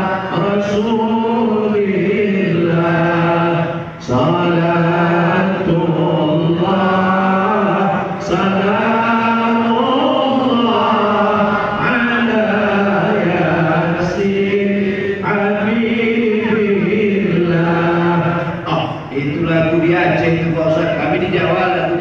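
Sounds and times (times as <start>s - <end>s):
men chanting a hymn: 0.0s - 22.0s.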